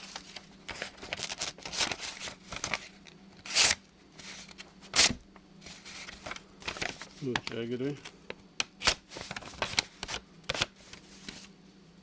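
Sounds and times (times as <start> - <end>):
paper rustling and tearing: 0.0 - 8.1, 8.8 - 11.5.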